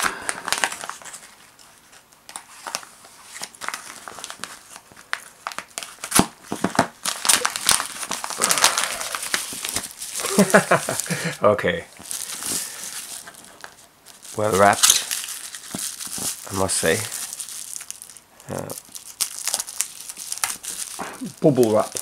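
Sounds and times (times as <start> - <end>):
newspaper crinkling: 0.0 - 11.3, 11.9 - 22.0.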